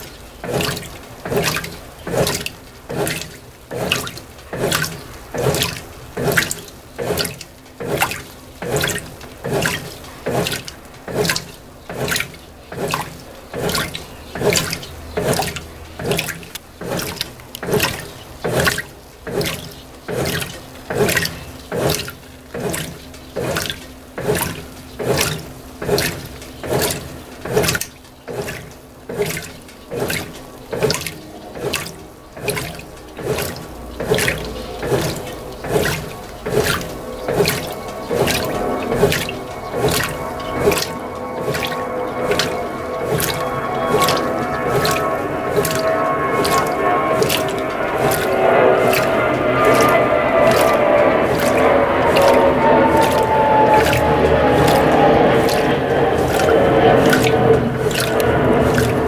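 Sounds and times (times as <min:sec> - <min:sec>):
faint steady machine hum: 0:00.0 - 0:59.0
washing machine water sloshing: 0:00.0 - 0:59.0.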